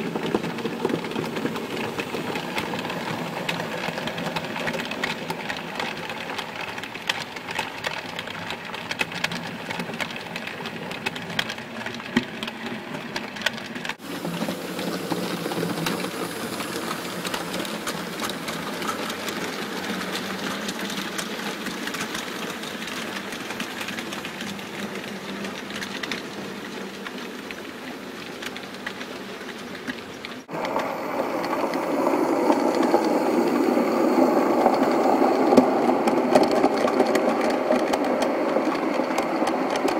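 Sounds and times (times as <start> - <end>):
wheels clicking over rails: 0.0 - 39.9.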